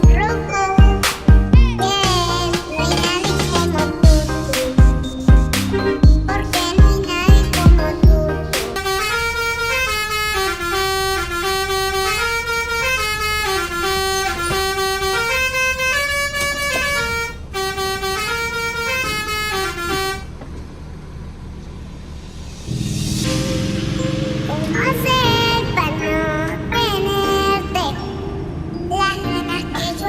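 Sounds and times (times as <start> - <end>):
multi-tone bus horn melody: 0.0 - 20.4, 23.2 - 30.0.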